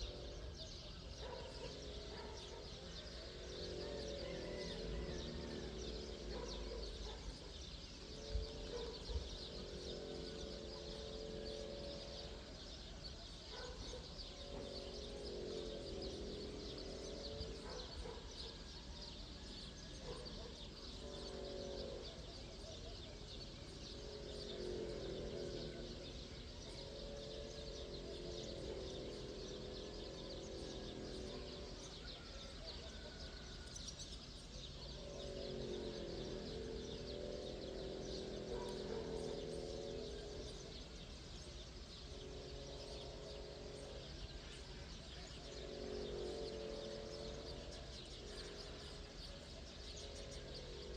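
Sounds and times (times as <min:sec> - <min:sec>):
low warbling bird calls: 0:00.0 - 0:50.9.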